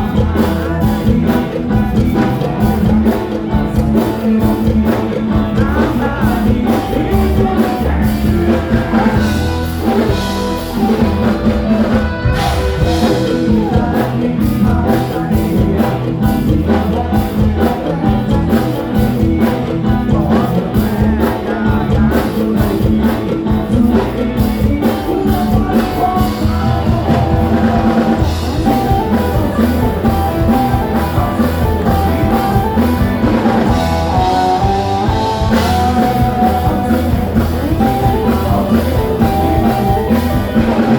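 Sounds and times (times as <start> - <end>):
drum beat: 0.0 - 40.9
live band playing: 0.0 - 40.9
person singing: 0.0 - 40.9.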